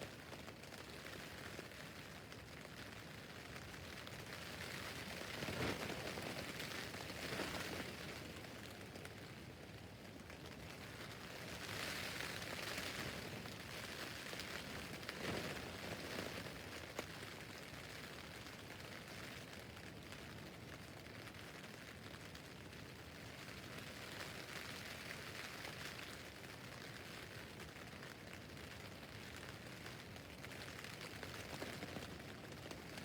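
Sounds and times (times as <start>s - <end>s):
rain on tent fabric: 0.0s - 33.0s.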